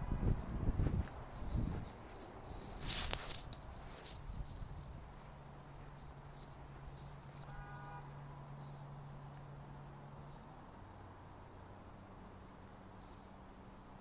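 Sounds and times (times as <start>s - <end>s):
faint low hum: 0.0s - 14.0s
insects chirping: 0.0s - 14.0s
rustling through brush: 0.0s - 14.0s.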